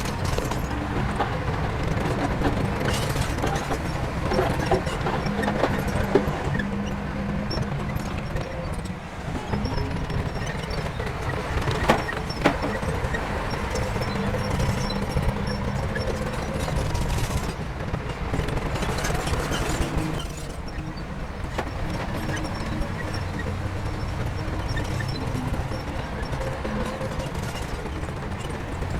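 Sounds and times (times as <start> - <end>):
diesel engine rumbling: 0.0 - 28.9.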